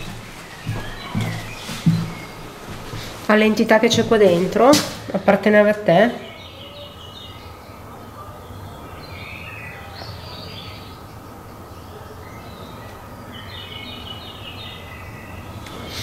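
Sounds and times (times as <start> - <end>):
background noise: 0.0 - 16.0
small birds chirping: 0.0 - 16.0.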